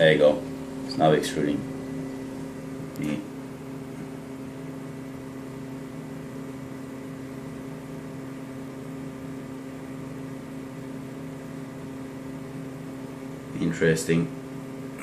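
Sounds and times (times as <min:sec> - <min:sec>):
enclosure fan whirring: 0:00.0 - 0:15.0
three d printer humming: 0:00.0 - 0:15.0.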